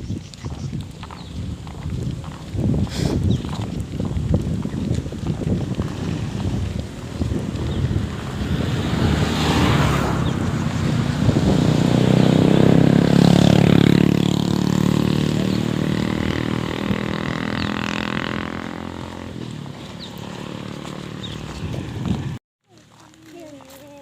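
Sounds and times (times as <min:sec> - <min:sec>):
motor vehicle passing by: 0:01.1 - 0:23.1.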